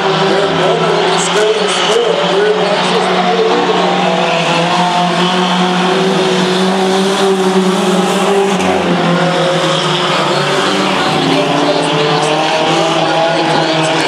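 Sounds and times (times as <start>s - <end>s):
racing truck engines running: 0.0s - 14.0s.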